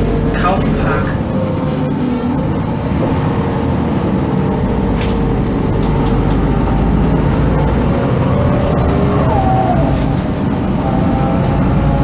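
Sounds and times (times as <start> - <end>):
bus diesel engine whining: 0.0 - 12.0.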